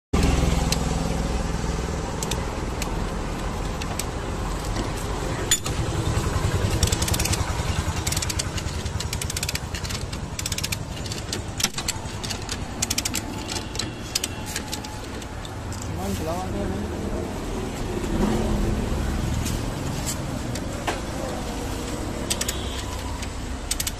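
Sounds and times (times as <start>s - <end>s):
low engine hum: 0.2s - 23.7s
chain hoist ratcheting clicks: 0.3s - 16.1s, 20.0s - 23.9s.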